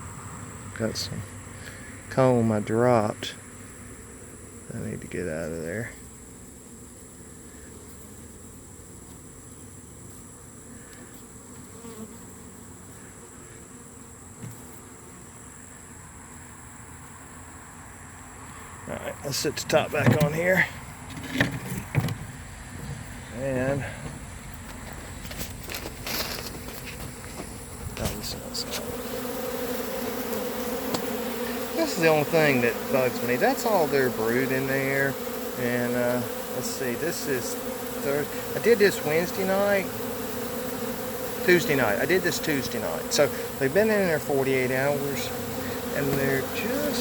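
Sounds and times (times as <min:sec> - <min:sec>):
honey bees buzzing: 0:00.0 - 0:47.0.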